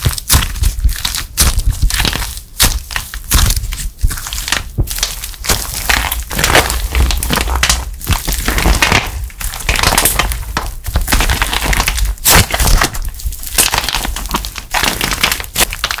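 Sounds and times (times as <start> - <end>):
clay crackling and crunching: 0.0 - 16.0.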